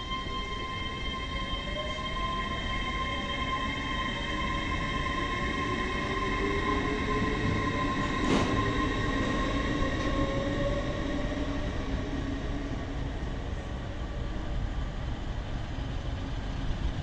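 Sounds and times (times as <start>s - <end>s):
low shifting train tones: 0.0s - 17.0s
train high-pitched whining: 0.0s - 17.0s.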